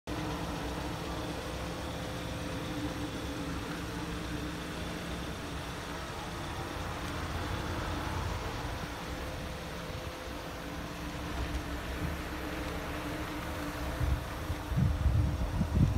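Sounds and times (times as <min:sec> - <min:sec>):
car engine idling: 0:00.1 - 0:15.9.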